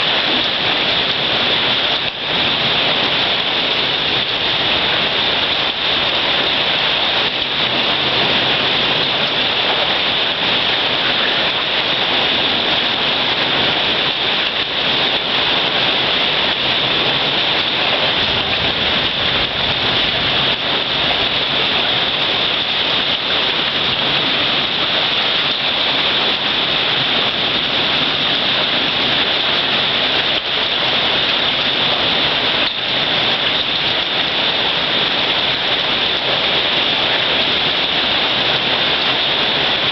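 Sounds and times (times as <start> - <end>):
hail and heavy rain pelting: 0.0 - 39.9.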